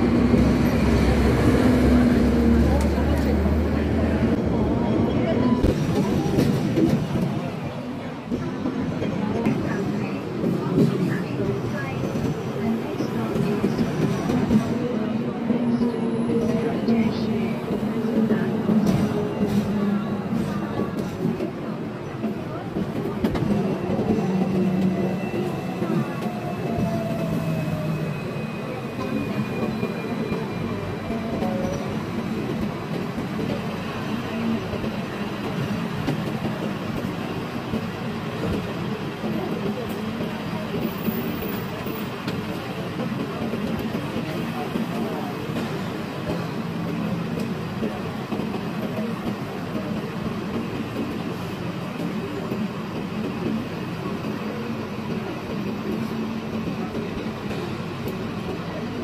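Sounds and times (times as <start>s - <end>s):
street traffic: 0.0s - 59.0s
tram rumbling and rattling: 0.0s - 59.0s.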